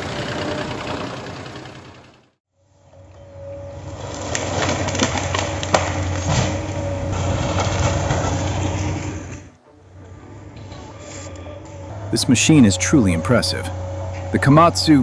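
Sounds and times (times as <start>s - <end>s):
heavy machine engine whining: 0.0s - 15.0s.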